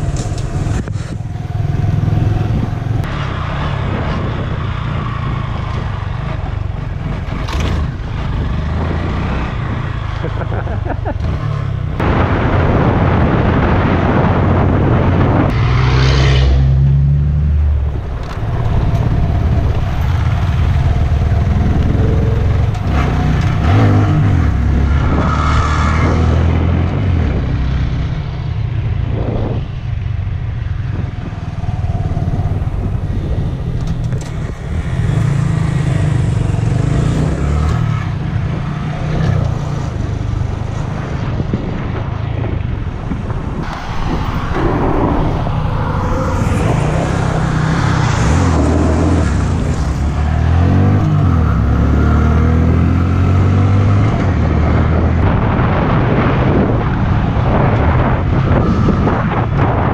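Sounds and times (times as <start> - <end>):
motorcycle engine revving: 0.0 - 28.0, 30.5 - 59.9.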